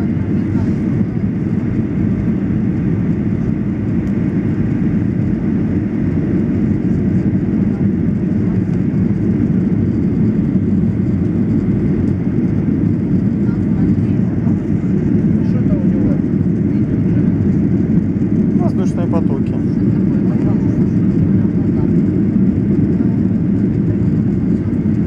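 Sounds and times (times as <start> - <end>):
airflow over fuselage: 0.0 - 25.0
airplane cabin engine drone: 0.0 - 25.0.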